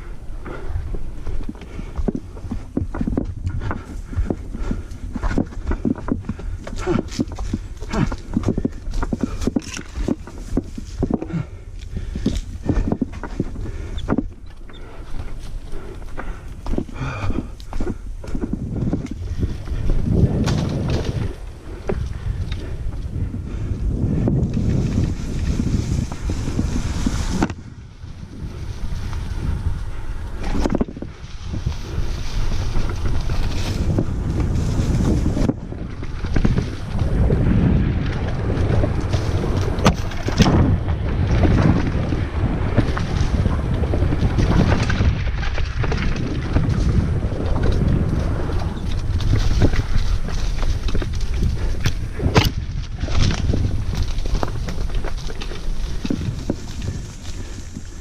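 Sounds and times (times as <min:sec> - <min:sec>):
wind buffeting microphone: 0:00.0 - 0:58.0
bike frame and chain rattling: 0:02.5 - 0:58.0.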